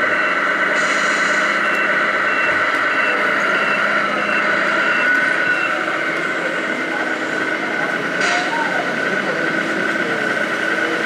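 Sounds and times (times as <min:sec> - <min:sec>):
reversing beeper: 0:00.0 - 0:09.0
steady hum: 0:00.0 - 0:11.0.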